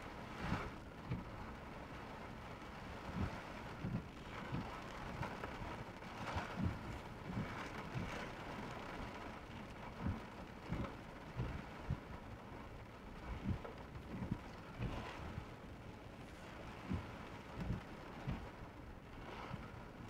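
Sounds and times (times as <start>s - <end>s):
heavy rain on a car: 0.0s - 20.0s.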